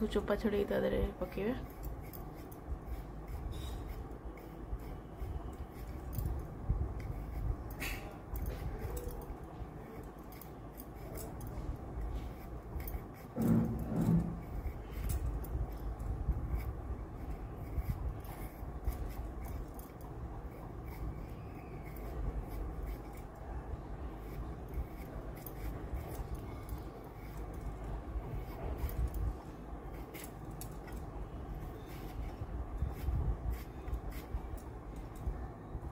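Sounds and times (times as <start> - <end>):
knife scraping potato skin: 1.2 - 6.4, 7.0 - 35.1.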